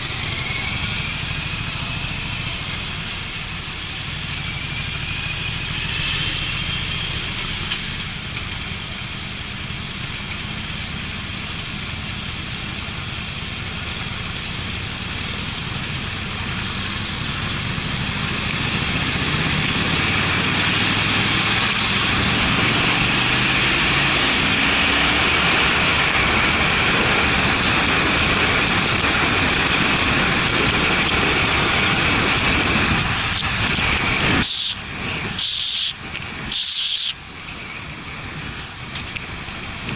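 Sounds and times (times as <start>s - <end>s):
motorcycle engine revving: 0.0s - 37.2s.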